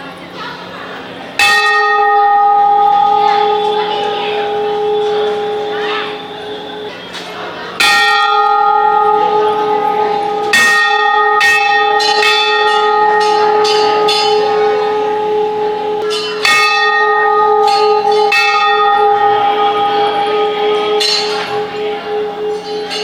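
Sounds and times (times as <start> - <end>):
temple bells ringing: 0.8 - 23.0.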